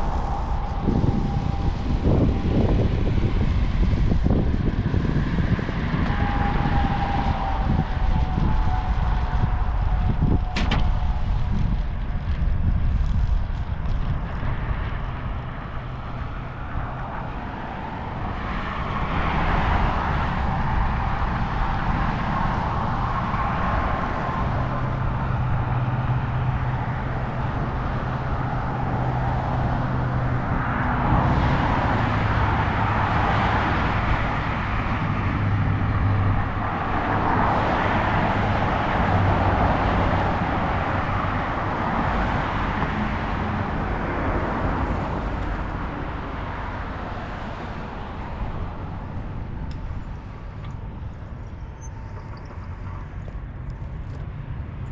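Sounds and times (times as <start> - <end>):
cars passing on busy road: 0.0 - 54.9
low engine hum: 0.0 - 54.9.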